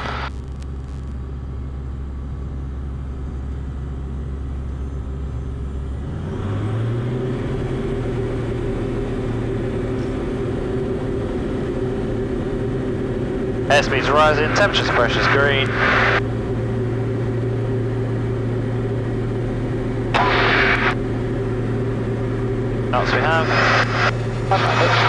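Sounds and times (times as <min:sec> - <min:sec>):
aircraft engine and propeller: 0:01.1 - 0:25.0.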